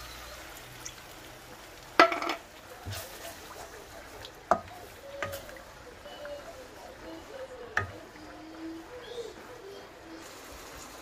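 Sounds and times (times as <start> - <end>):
chilli paste frying in a wok: 0.0 - 9.6, 10.2 - 11.0
wooden spatula stirring: 0.4 - 11.0.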